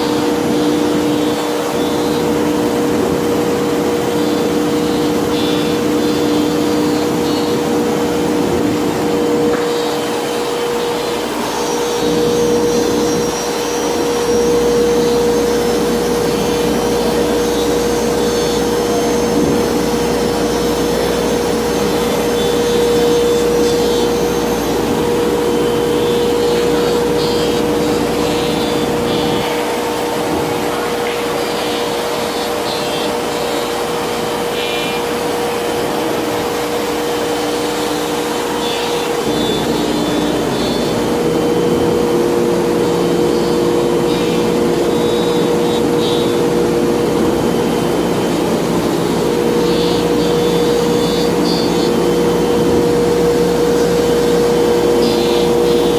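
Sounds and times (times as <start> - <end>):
router spindle cutting: 0.0 - 55.9.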